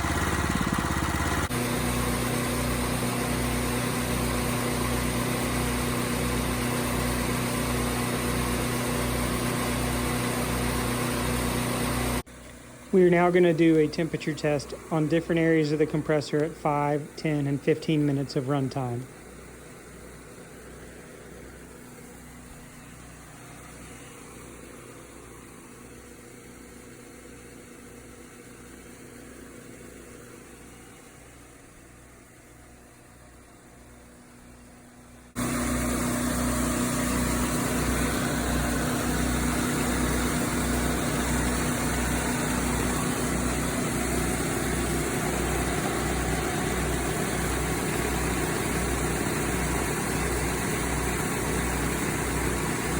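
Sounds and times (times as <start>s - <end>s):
air compressor running: 0.0s - 52.9s.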